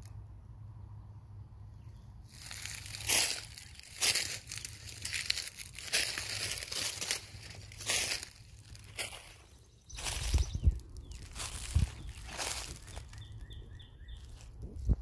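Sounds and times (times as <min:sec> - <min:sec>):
footsteps crunching dry leaves: 0:02.3 - 0:15.0.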